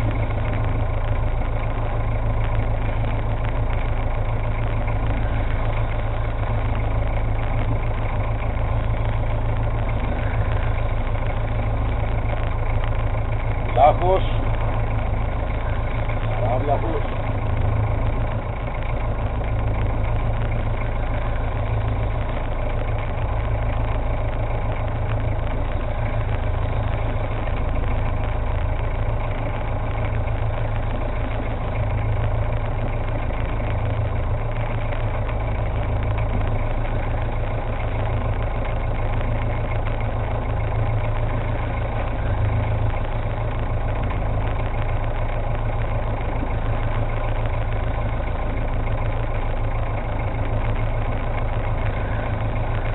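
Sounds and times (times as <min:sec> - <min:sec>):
boat engine idling: 0:00.0 - 0:52.9.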